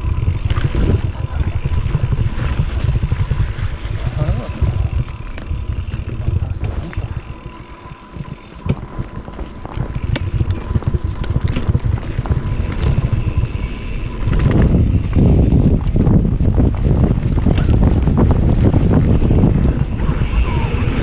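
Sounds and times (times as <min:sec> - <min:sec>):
bike clicking and rattling: 0:00.0 - 0:21.0
bike tyre rumble: 0:00.0 - 0:21.0
wind buffeting microphone: 0:00.0 - 0:21.0.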